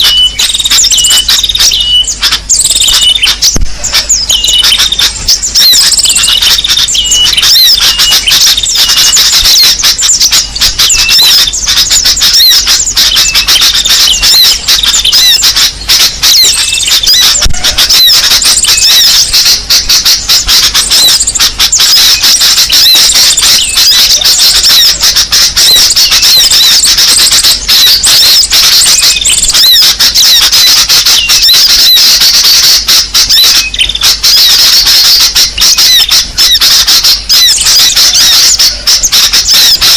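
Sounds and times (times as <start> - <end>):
recorded bird chatter: 0.0 - 39.9.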